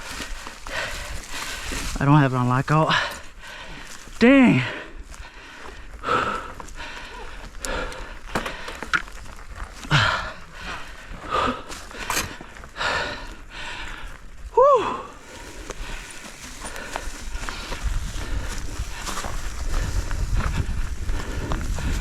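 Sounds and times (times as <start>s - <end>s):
person breathing hard: 0.0s - 2.0s, 2.9s - 9.2s, 9.8s - 22.0s.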